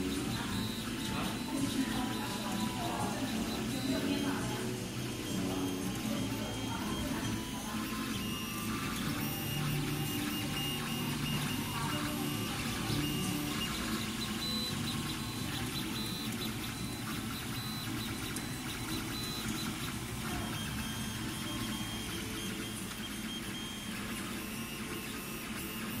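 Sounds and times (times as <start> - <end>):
high motor whines: 0.0 - 26.0
three d printer motors running: 0.0 - 26.0.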